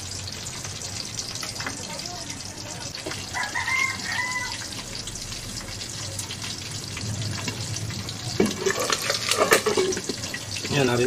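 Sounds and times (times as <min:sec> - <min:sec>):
fat crackling and popping: 0:00.0 - 0:11.0
meat sizzling in oil: 0:00.0 - 0:11.0.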